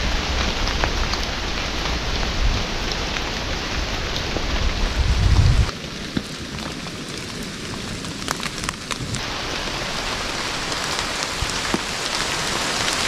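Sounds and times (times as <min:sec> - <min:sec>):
rain falling in a forest: 0:00.0 - 0:13.0.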